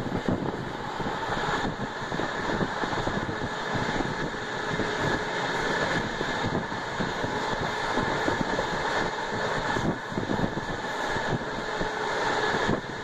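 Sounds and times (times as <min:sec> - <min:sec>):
rushing air: 0:00.0 - 0:13.0
train wheels rumbling on rails: 0:00.0 - 0:13.0.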